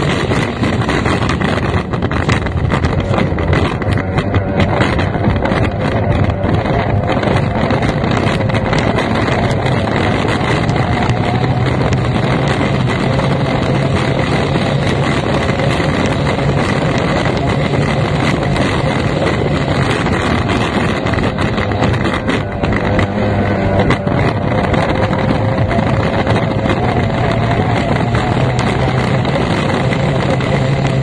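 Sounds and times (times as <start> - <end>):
racing boat engine running: 0.0 - 31.0
wind buffeting microphone: 0.0 - 31.0.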